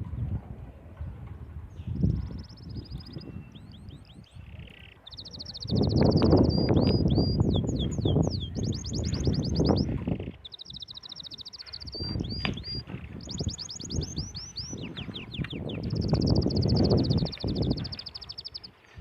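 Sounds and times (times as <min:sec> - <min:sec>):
canary singing: 0:02.0 - 0:18.8.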